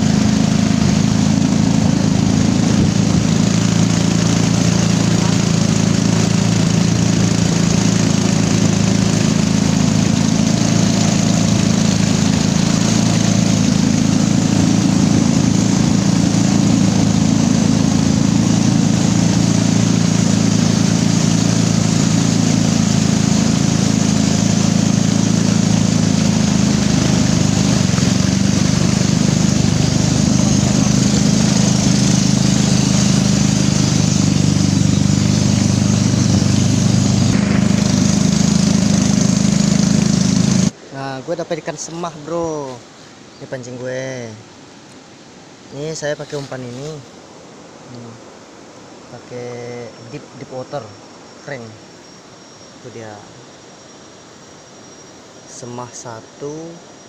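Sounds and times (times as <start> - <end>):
water hissing: 0.0 - 44.6, 45.6 - 57.0
boat engine droning: 0.0 - 57.0
wind: 0.0 - 57.0.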